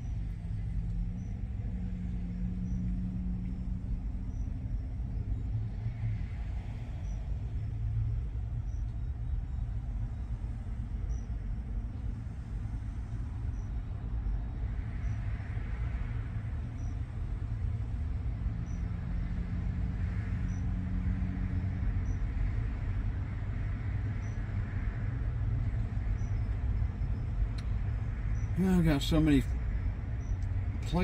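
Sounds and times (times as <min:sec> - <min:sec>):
vehicle engines idling: 0:00.0 - 0:31.0.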